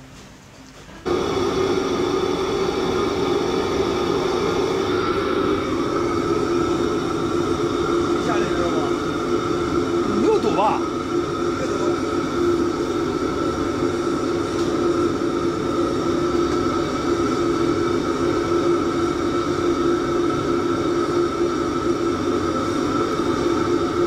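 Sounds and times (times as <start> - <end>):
kitchen fan humming: 0.0 - 24.0.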